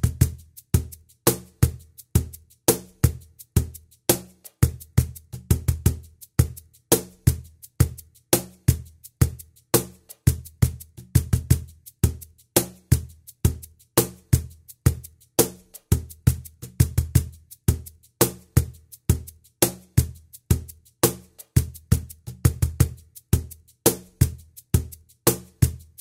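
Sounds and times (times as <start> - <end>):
cajon percussion groove: 0.0 - 26.0.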